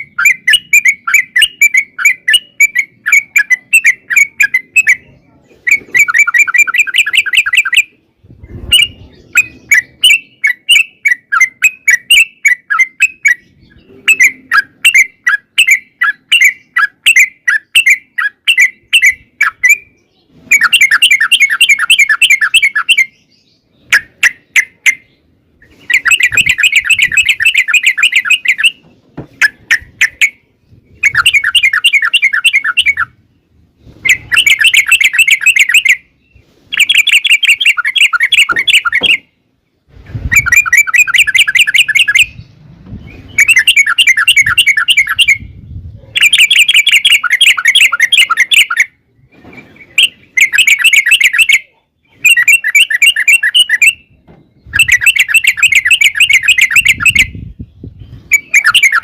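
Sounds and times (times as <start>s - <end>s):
bulbul chattering song: 0.0s - 49.1s, 49.8s - 59.0s.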